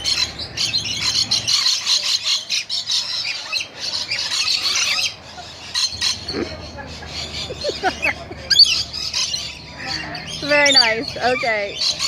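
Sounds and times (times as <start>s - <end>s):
lorikeets screeching: 0.0s - 12.0s.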